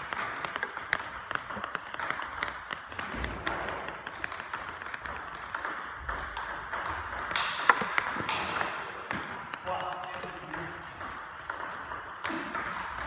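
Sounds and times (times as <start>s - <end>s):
ping pong ball clicks: 0.0s - 13.0s.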